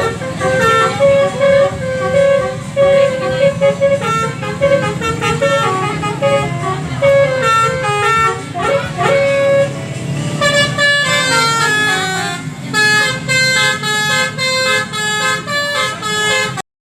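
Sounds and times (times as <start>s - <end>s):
low engine hum: 0.0s - 16.6s
musical horn playing a tune: 0.0s - 16.6s.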